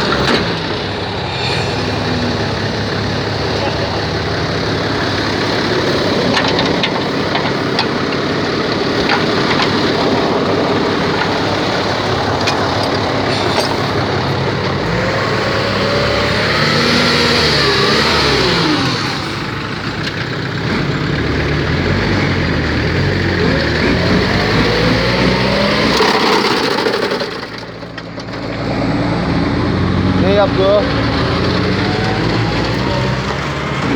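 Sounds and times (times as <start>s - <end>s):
diesel truck engine revving: 0.0s - 33.9s.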